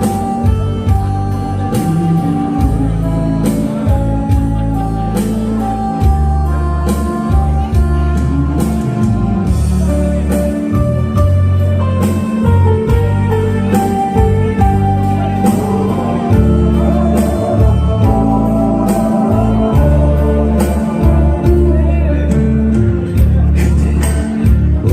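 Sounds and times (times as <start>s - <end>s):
sustained melodic line: 0.0s - 23.4s
bass and drum beat: 0.0s - 24.9s.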